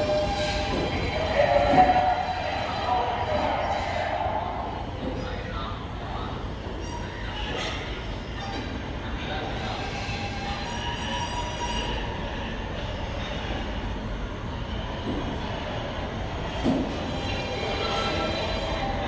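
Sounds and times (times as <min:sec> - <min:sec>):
faint wheel squeal: 0:00.0 - 0:13.6, 0:16.5 - 0:19.0
subway train wheels rumbling: 0:00.0 - 0:19.0.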